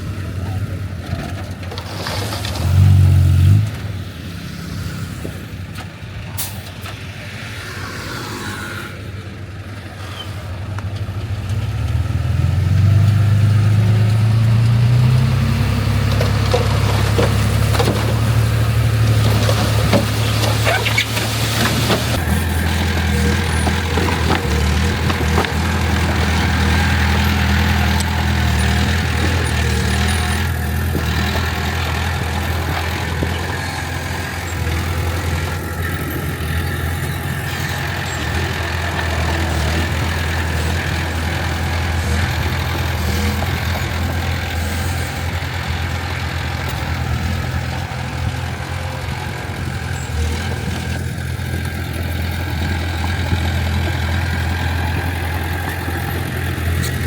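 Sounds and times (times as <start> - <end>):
heavy diesel engine humming: 0.0 - 7.4, 8.8 - 57.0.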